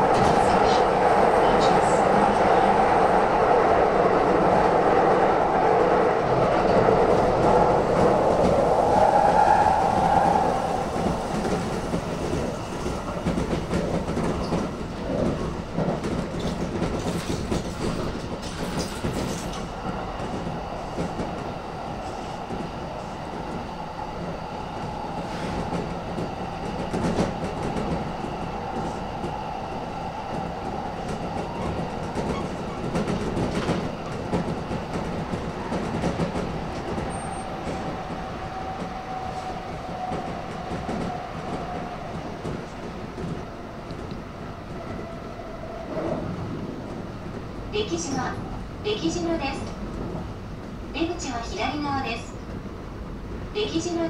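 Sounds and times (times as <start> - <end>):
train running noise: 0.0 - 54.0.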